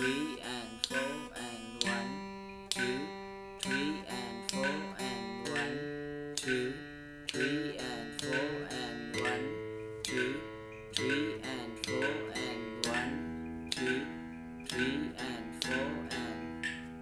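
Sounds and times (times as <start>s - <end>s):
guitar strings plucked: 0.0s - 17.0s.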